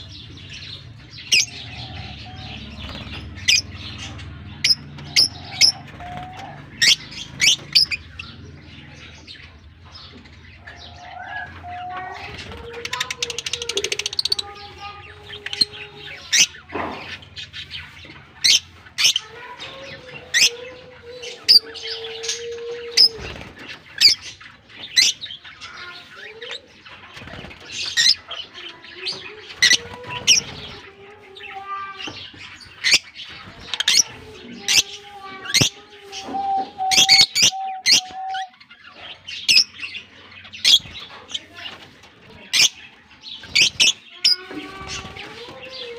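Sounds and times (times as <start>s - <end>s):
lovebirds chirping: 0.0s - 45.9s.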